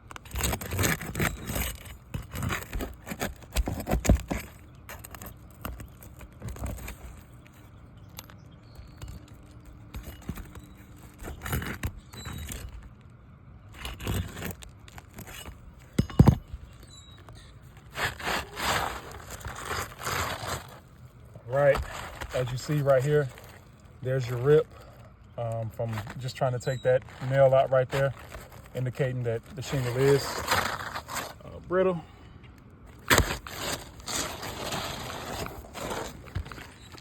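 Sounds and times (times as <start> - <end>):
shingles scraping and tearing: 0.0 - 32.0, 32.9 - 37.0.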